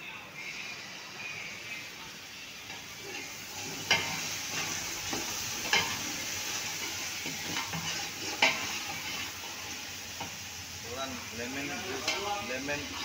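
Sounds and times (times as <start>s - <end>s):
food sizzling in hot oil: 0.1s - 13.0s.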